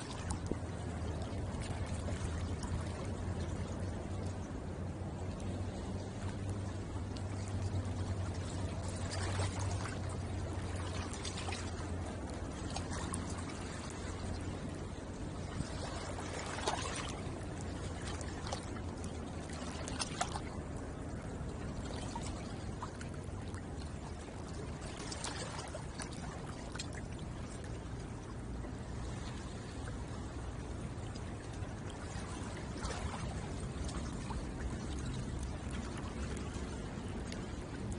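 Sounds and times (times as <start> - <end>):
water lapping against shore: 0.0 - 37.9
water splashes: 0.0 - 37.9.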